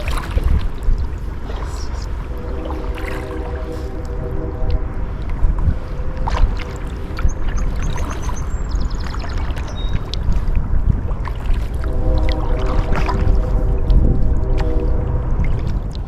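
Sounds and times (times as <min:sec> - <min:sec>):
paddle splashing in water: 0:00.0 - 0:05.4, 0:06.2 - 0:16.0
wind on microphone: 0:00.0 - 0:16.0.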